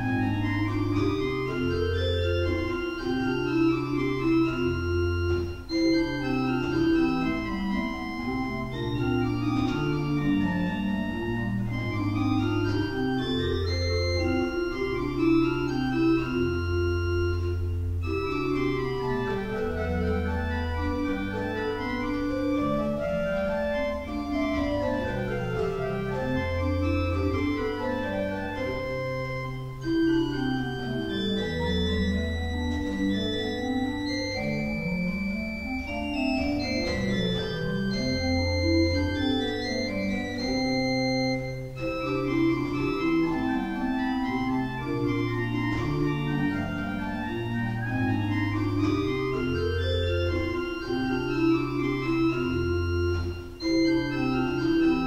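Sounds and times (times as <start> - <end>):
pipe organ playing: 0.0 - 55.0.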